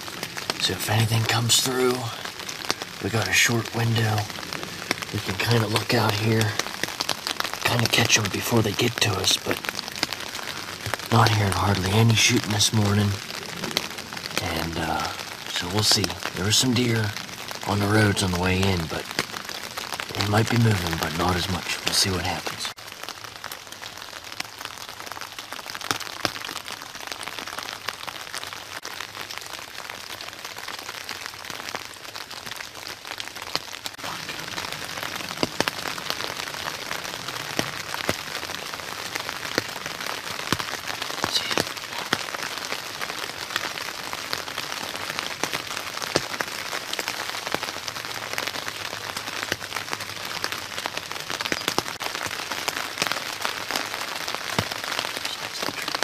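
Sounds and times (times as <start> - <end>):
raindrops ticking sharply: 0.0 - 56.0
steady rain falling: 0.0 - 56.0.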